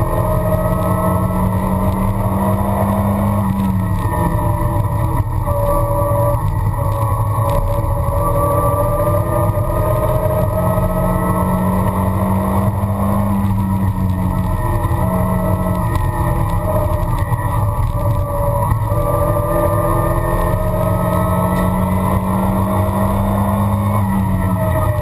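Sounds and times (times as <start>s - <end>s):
car engine running under load: 0.0s - 25.0s.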